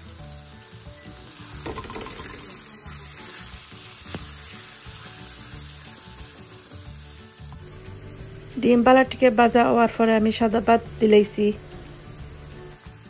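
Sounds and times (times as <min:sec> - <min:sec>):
food sizzling in a frying pan: 0:00.0 - 0:13.0
soft background music: 0:00.0 - 0:13.0.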